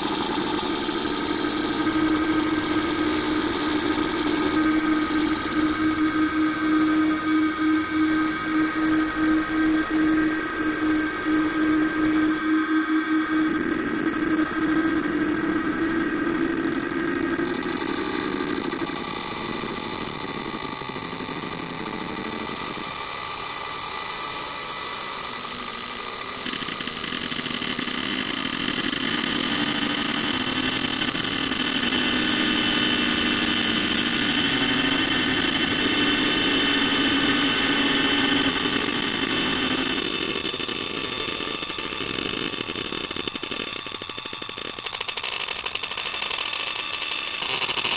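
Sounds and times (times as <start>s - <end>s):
slowed audio drone: 0.0s - 47.9s.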